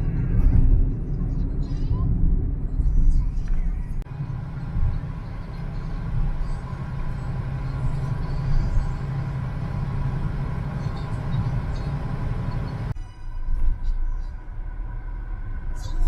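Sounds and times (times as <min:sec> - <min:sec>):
vehicle engine and tyre rumble: 0:00.0 - 0:16.0.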